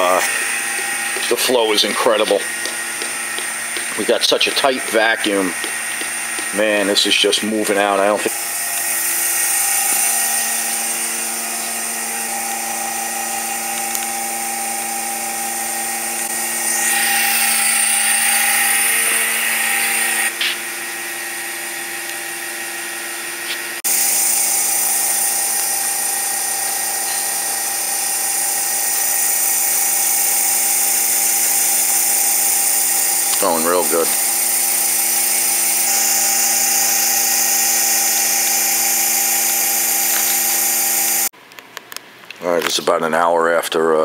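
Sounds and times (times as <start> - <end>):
vacuum pump humming and hissing: 0.0 - 41.3.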